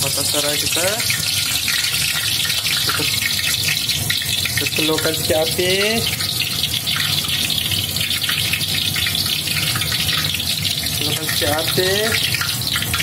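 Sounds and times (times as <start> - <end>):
stalks sizzling in hot oil: 0.0 - 13.0.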